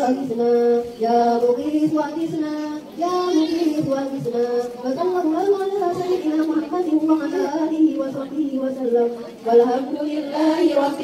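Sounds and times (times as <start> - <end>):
women chanting: 0.0 - 11.0.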